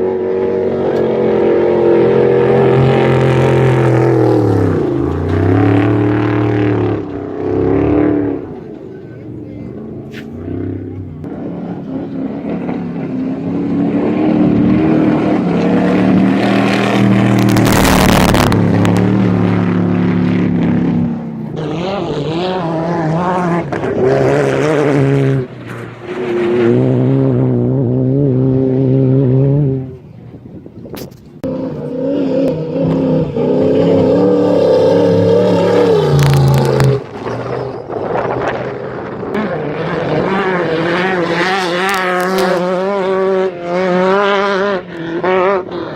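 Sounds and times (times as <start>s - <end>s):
race vehicle engines passing: 0.0s - 45.9s.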